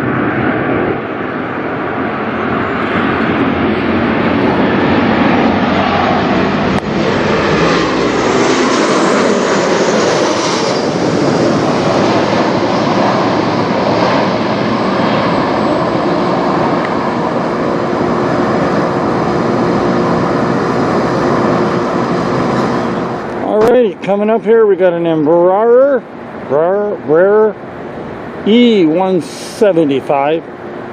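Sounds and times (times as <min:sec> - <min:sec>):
jet engines flying over: 0:00.0 - 0:30.9.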